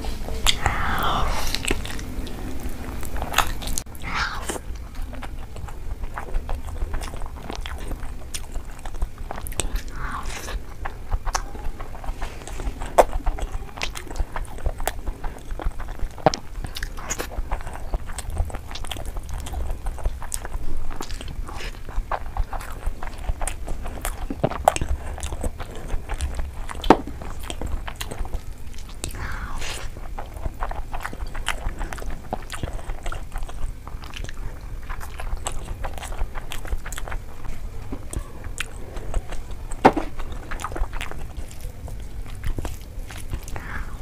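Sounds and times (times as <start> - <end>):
steady low hum: 0.0 - 44.0
chewing and mouth clicks: 0.3 - 44.0.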